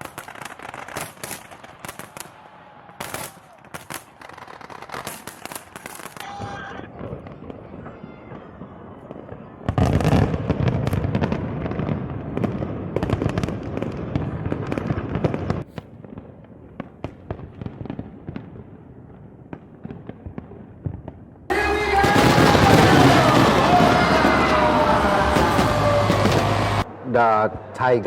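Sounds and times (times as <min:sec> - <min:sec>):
fireworks cracking and banging: 0:00.0 - 0:26.9.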